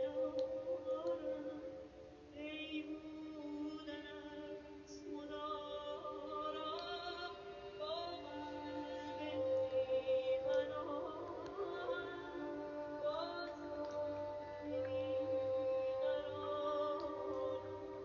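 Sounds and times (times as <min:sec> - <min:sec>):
bowed violins and cello: 0:00.0 - 0:18.0
woman singing: 0:00.0 - 0:18.0.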